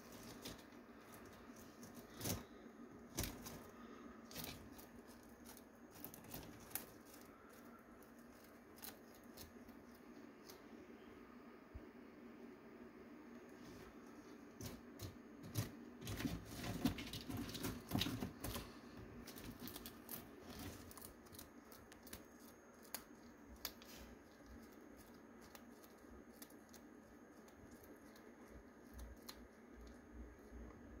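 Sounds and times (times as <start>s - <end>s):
lizard crunching insect: 0.0s - 10.7s, 14.6s - 30.9s.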